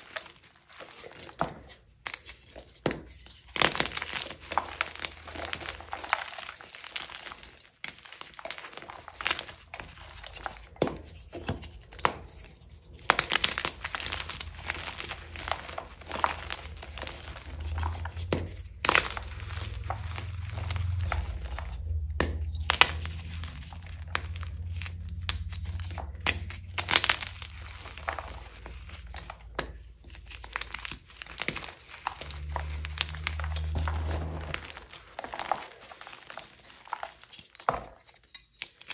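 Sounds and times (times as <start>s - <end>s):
chalk crunching and crackling: 0.0s - 38.9s.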